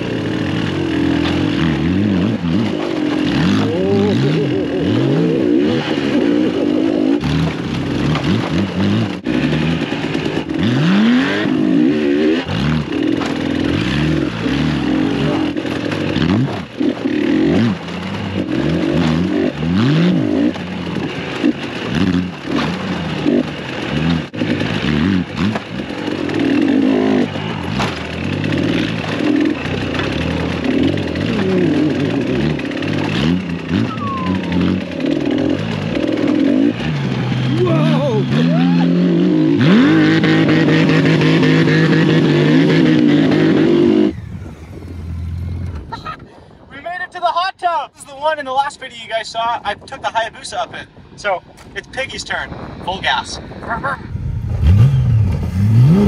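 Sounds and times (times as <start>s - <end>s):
dirt bike engine revving: 0.0s - 46.0s, 53.6s - 56.0s.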